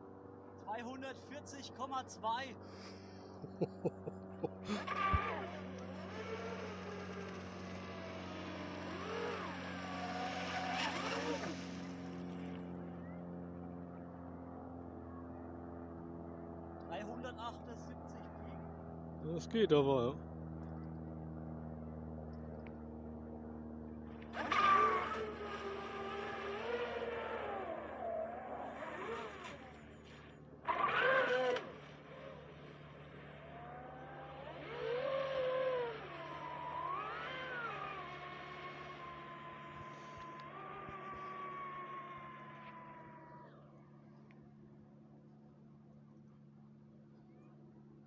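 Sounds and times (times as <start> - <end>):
rc boat motors whining: 0.9 - 18.8, 22.2 - 45.5.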